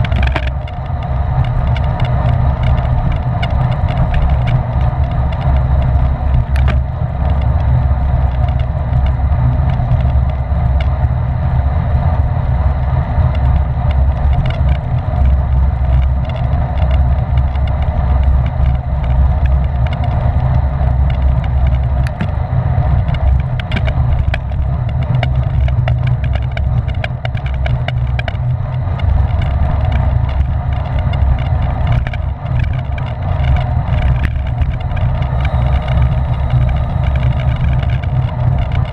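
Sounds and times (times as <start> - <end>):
bicycle clicks and rattles: 0.0 - 38.9
wind rushing over microphone: 0.0 - 38.9.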